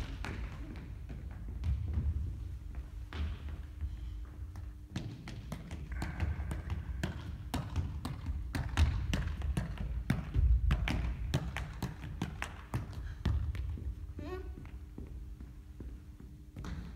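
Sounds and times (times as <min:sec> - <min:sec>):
foot tapping football: 0:00.0 - 0:16.9.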